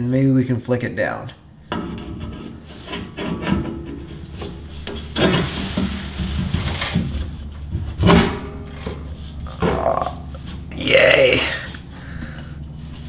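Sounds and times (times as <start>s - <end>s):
metal scraping and rubbing: 1.4s - 13.0s.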